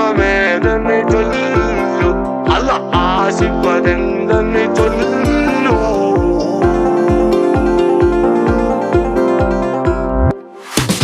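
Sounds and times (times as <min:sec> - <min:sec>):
kick drum beat: 0:00.0 - 0:10.2
synth keyboard notes: 0:00.0 - 0:10.6.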